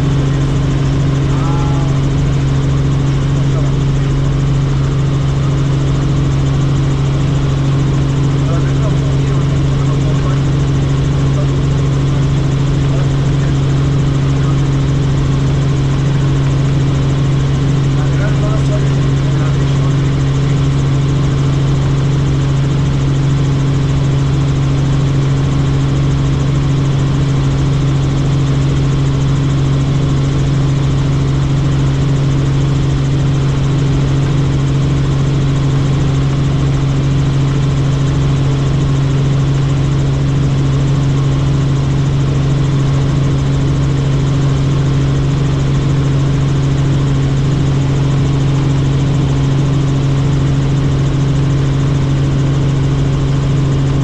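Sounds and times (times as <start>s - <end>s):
helicopter rotors and engine drone: 0.0s - 54.0s.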